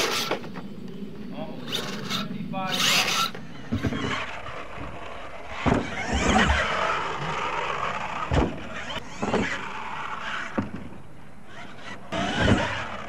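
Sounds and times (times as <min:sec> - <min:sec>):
toy truck motor whining: 0:00.0 - 0:00.6, 0:01.6 - 0:13.0.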